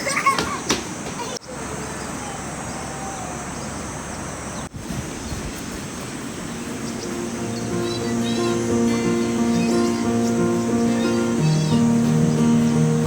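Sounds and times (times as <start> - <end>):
running water rushing: 0.9 - 13.0.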